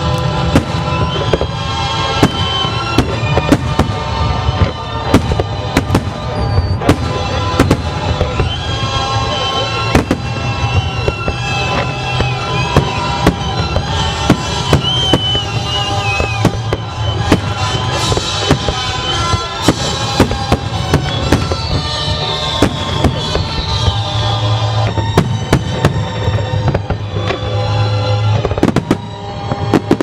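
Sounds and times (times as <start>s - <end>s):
fireworks banging: 0.0s - 30.0s
loud music: 0.0s - 30.0s.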